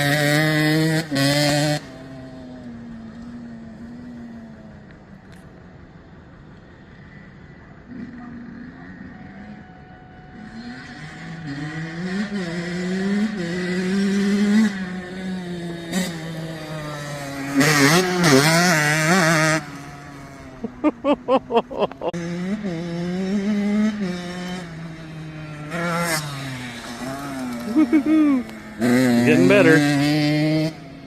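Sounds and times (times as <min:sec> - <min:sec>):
dirt bike engine revving: 0:00.0 - 0:04.6, 0:10.3 - 0:31.0.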